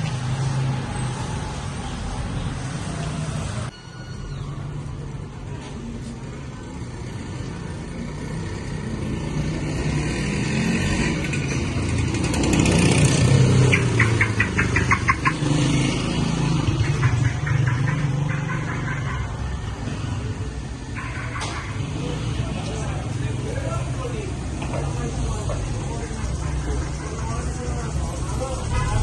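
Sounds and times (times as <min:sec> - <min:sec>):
motor vehicles passing: 0:00.0 - 0:03.7, 0:04.4 - 0:29.0.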